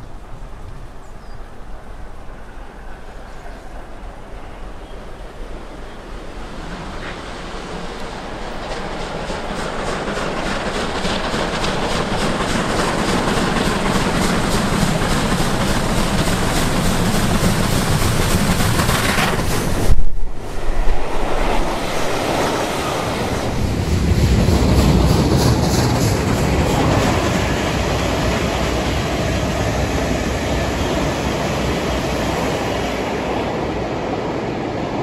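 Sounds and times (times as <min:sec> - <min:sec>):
steam locomotive exhaust: 0:01.7 - 0:34.8.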